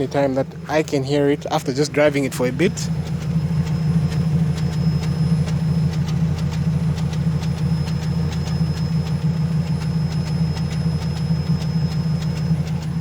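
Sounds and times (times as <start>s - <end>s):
engine idling with a misfire: 0.0s - 13.0s.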